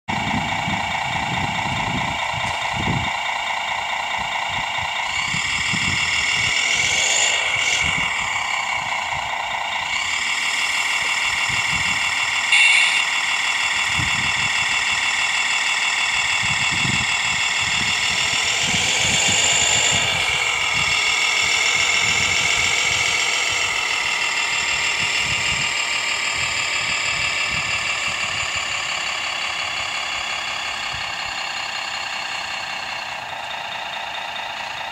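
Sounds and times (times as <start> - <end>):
toy truck motors whining: 0.1 - 34.9.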